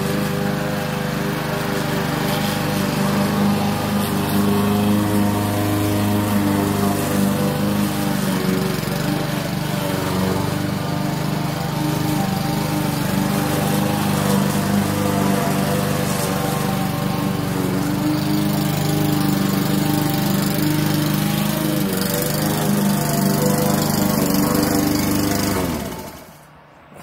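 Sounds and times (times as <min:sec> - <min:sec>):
push mower engine cutting grass: 0:00.0 - 0:27.0.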